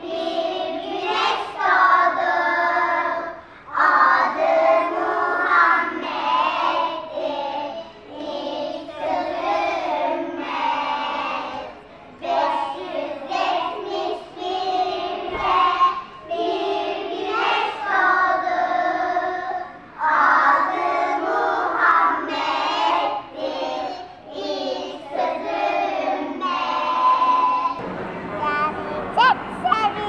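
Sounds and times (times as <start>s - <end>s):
children singing in unison: 0.0s - 27.8s.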